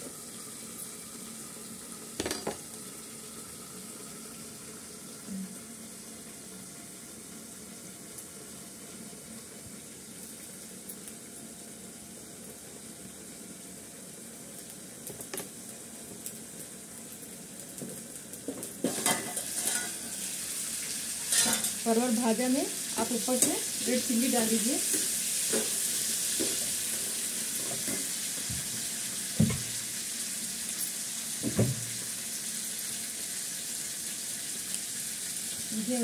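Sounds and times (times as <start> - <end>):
vegetable sizzling in oil: 0.0 - 36.0.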